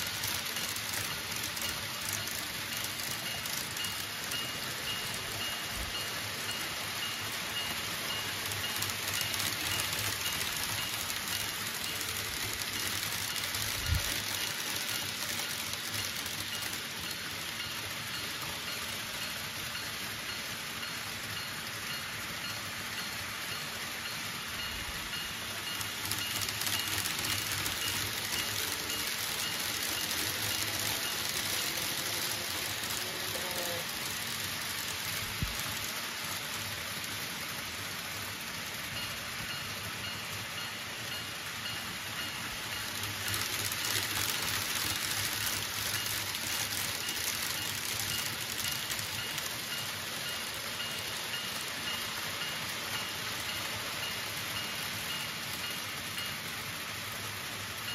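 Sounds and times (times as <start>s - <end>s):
model trains rolling on rails: 0.0s - 57.9s.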